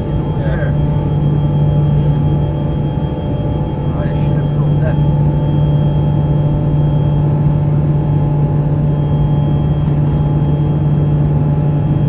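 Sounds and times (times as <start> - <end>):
faint steady whines: 0.0 - 12.0
jet engine drone in cabin: 0.0 - 12.0.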